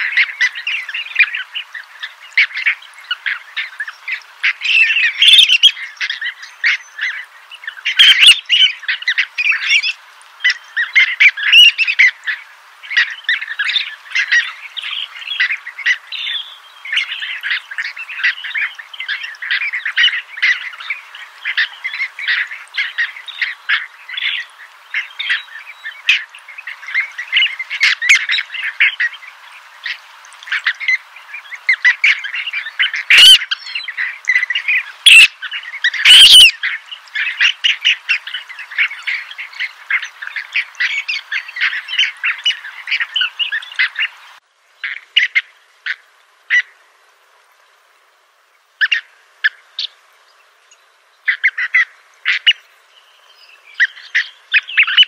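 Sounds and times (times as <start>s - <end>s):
flock of birds calling: 0.0s - 46.8s, 48.8s - 50.0s, 51.2s - 55.0s.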